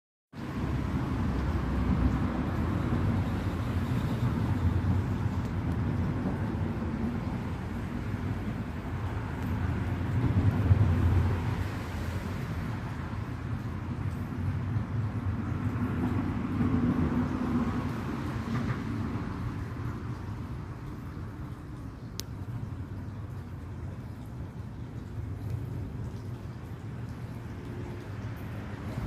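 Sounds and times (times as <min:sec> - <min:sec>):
road traffic rumble: 0:00.4 - 0:29.0
vehicles passing: 0:00.4 - 0:29.0.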